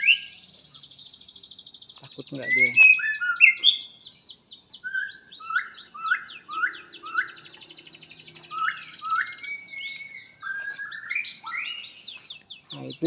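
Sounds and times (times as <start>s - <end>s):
songbird singing whistled notes: 0.0s - 13.0s.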